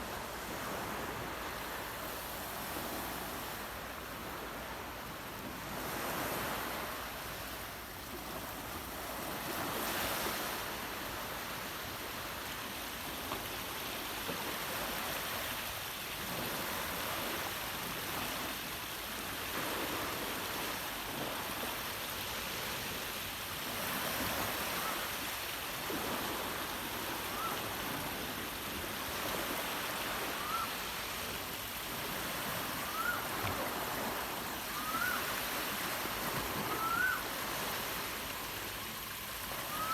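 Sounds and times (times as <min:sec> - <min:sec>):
surf washing on shore: 0:00.0 - 0:39.9.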